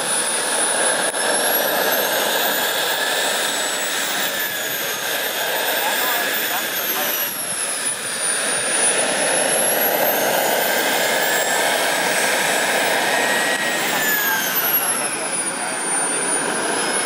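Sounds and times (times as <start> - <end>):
model plane turbine whine: 0.0 - 17.0
propeller noise: 0.0 - 17.0.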